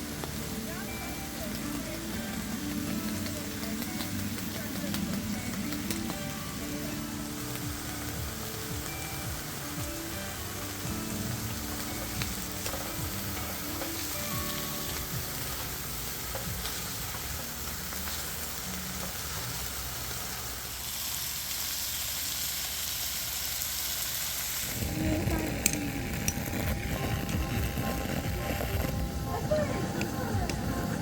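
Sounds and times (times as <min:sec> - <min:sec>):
soft background music: 0:00.0 - 0:20.8, 0:24.6 - 0:31.0
food sizzling in a pan: 0:00.0 - 0:31.0.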